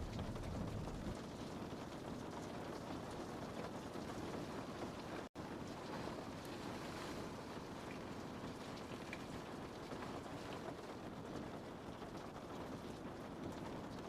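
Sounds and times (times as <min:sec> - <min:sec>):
rain pattering on a window: 0:00.0 - 0:14.0.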